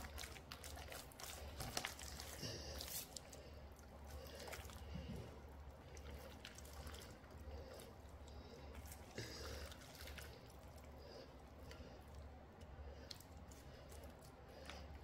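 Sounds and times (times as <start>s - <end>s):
hands squelching in paste: 0.0s - 15.0s
low steady hum: 0.0s - 15.0s.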